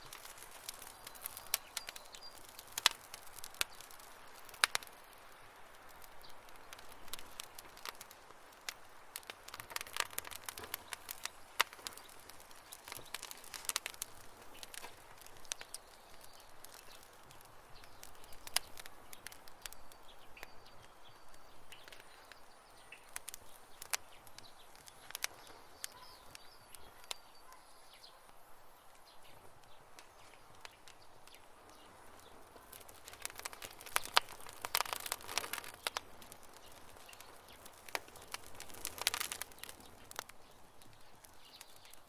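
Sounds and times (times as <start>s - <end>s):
campfire wood crackling: 0.0s - 42.0s
soft hiss: 0.0s - 42.0s.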